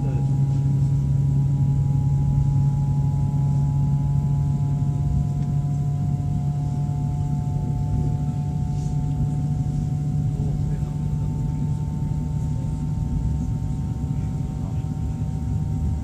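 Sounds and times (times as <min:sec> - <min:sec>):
train rumble and hum: 0:00.0 - 0:16.0.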